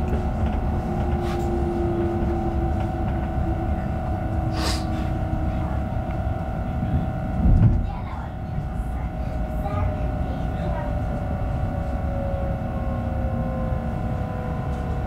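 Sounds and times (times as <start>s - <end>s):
steady hum: 0.0s - 15.0s
train wheels rumbling on track: 0.0s - 15.0s.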